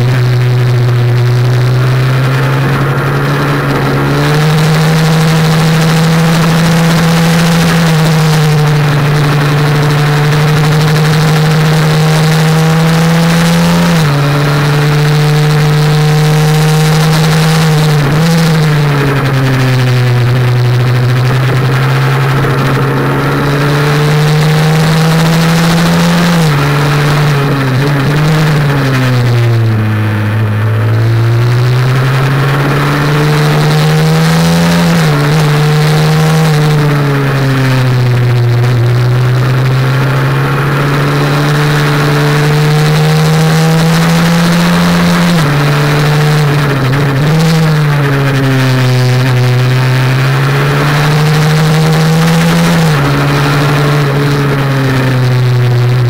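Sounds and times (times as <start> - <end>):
motorcycle engine at racing speed: 0.0 - 56.0
steady wind noise: 0.0 - 56.0.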